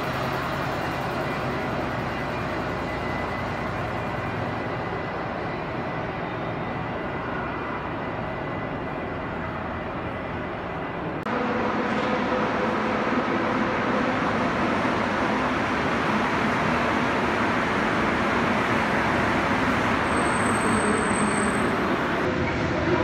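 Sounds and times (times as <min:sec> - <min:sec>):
steady train hum: 0:00.0 - 0:23.0
subway train rumbling past: 0:00.0 - 0:23.0.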